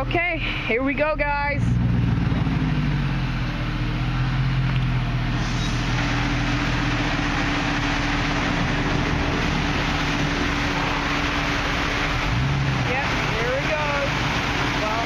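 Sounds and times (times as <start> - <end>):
engine idling near tailpipe: 0.0 - 15.0.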